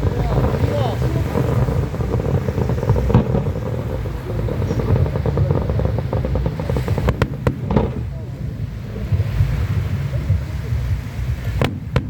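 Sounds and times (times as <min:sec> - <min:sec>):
fireworks rumbling and crackling: 0:00.0 - 0:12.0
sharp firework bang: 0:00.0 - 0:12.0.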